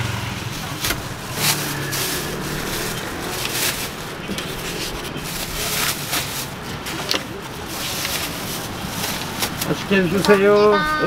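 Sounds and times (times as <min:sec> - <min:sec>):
plastic bag rustling and crinkling: 0:00.3 - 0:10.7
foam boxes being packed: 0:00.4 - 0:10.4.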